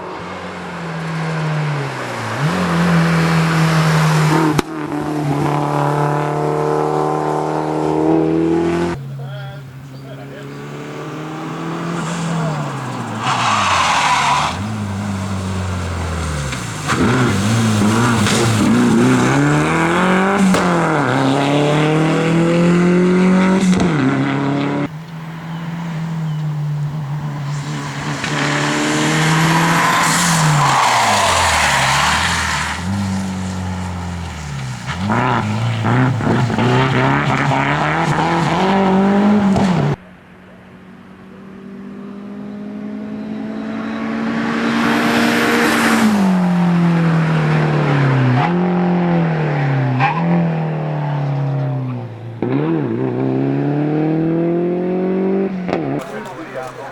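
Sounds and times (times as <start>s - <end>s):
rally car engine revving: 0.0s - 40.0s, 41.4s - 56.9s.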